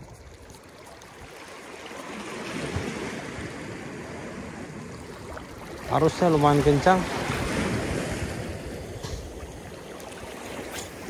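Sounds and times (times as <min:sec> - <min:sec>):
wind noise on microphone: 0:00.0 - 0:01.4, 0:02.0 - 0:11.0
sea water washing and lapping: 0:00.0 - 0:11.0.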